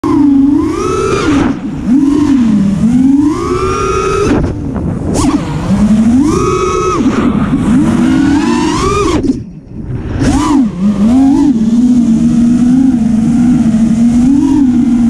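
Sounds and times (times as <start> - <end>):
quadcopter motors buzzing whine: 0.0 - 15.0.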